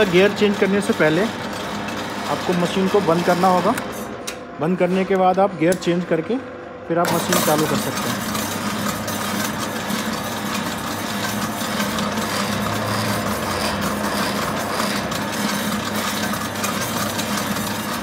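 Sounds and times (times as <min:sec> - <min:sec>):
mixer motor humming: 0:00.0 - 0:18.0.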